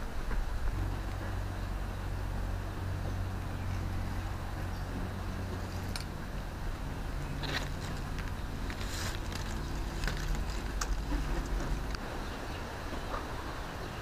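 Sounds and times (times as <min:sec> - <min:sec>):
palm leaves rustling and crackling: 0:00.0 - 0:14.0
steady low hum: 0:00.0 - 0:14.0.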